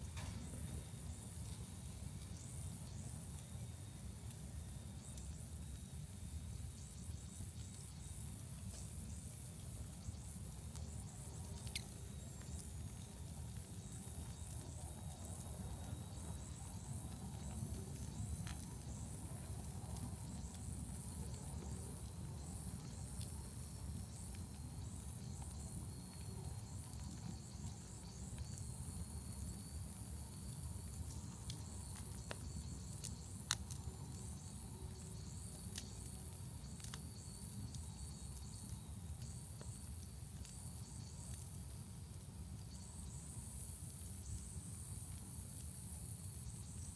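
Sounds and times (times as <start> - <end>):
fire popping: 0.0 - 46.9
wood fire rumbling and crackling: 0.0 - 46.9.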